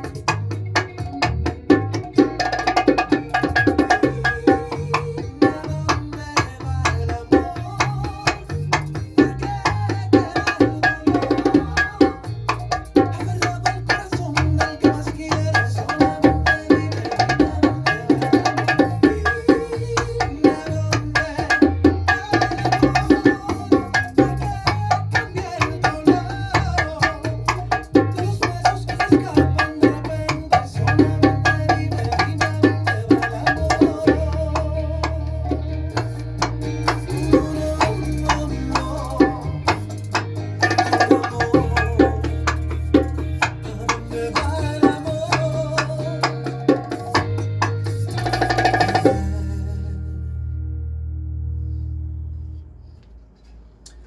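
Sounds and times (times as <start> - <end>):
bass line: 0.0 - 52.8.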